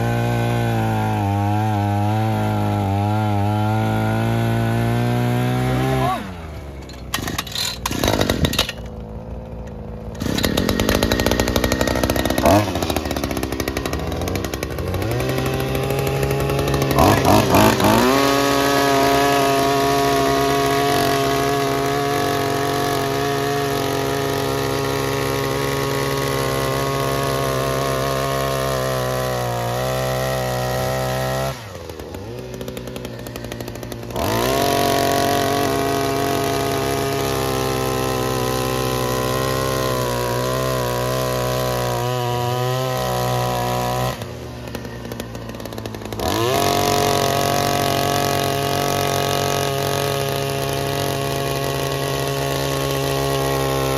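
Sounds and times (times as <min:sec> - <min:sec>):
earth auger engine revving: 0:00.0 - 0:53.9.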